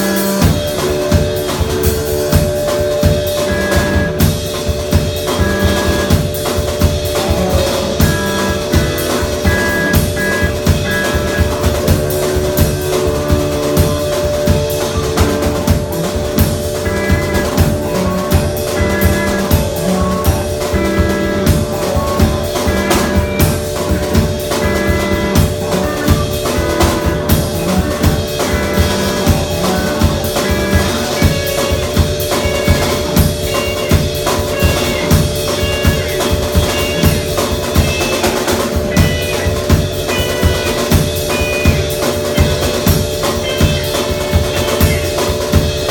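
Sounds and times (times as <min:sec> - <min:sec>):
drum kit steady beat: 0:00.0 - 0:45.9.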